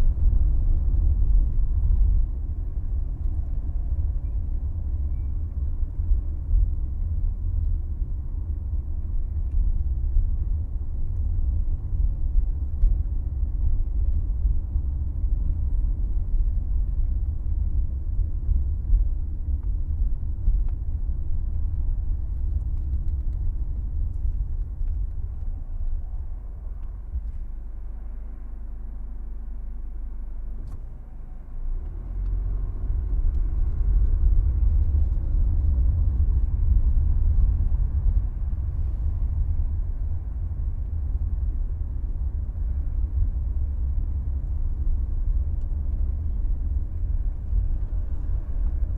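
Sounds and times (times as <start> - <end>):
car engine and road rumble: 0.0 - 48.9.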